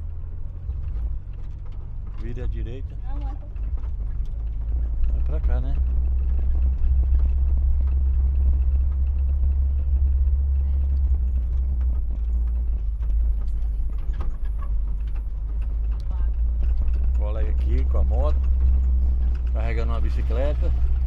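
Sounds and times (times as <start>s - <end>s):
engine and tyres rumbling: 0.0s - 21.0s.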